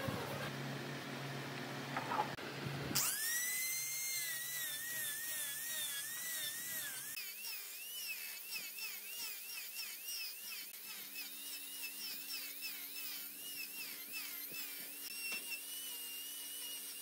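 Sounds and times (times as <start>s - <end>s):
power tool motor whining: 3.0s - 17.0s.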